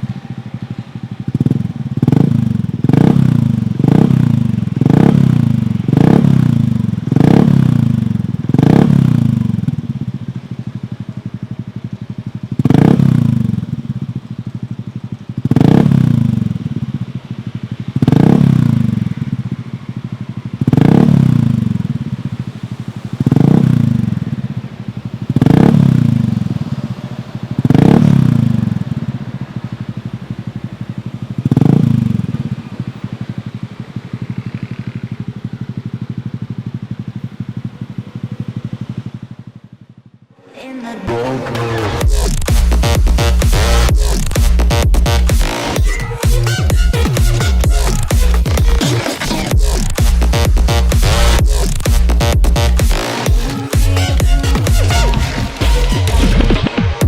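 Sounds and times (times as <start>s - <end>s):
scooter engine revving and idling: 0.0s - 57.0s.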